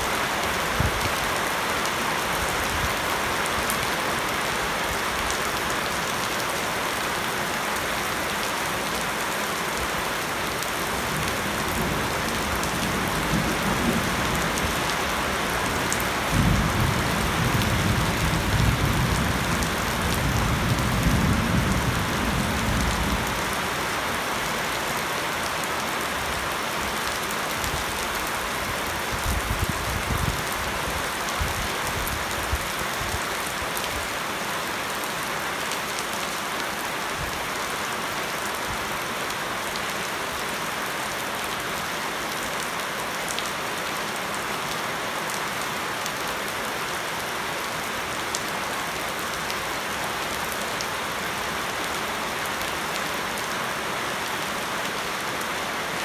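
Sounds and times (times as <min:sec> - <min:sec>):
heavy rain on leaves and paving: 0:00.0 - 0:56.0.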